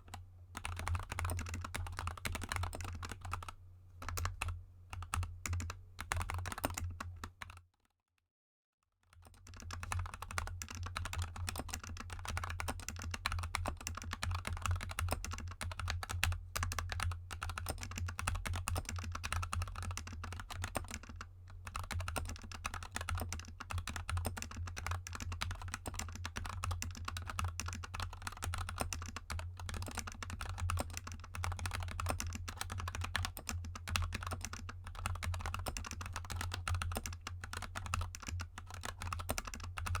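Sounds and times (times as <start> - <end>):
mechanical keyboard typing: 0.1 - 7.6, 9.1 - 40.0.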